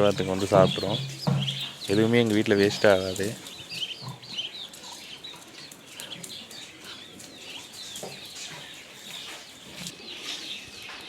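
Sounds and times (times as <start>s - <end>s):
chickens clucking: 0.0s - 11.0s
high chirps and peeps: 0.0s - 11.0s.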